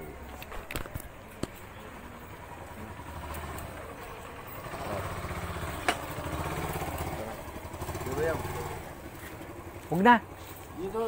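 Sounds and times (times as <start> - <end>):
small motorcycle engine idling: 1.5 - 11.0.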